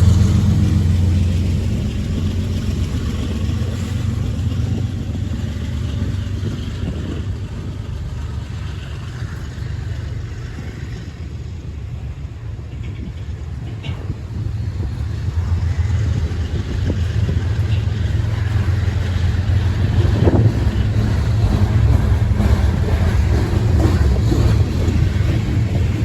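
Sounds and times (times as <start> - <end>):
diesel locomotive rumble: 0.0 - 26.0
train wheel noise: 0.0 - 26.0.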